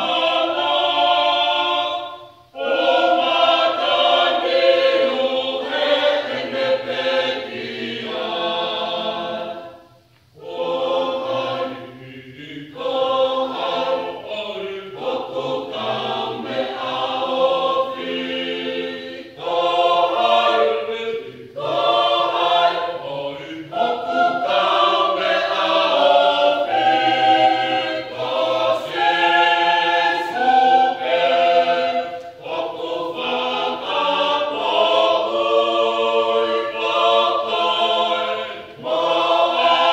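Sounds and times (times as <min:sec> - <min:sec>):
mixed choir singing unaccompanied: 0:00.0 - 0:39.9.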